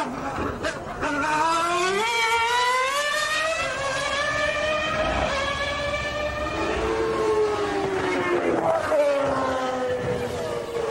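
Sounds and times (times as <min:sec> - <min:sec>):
race car engine accelerating: 0:00.0 - 0:10.9.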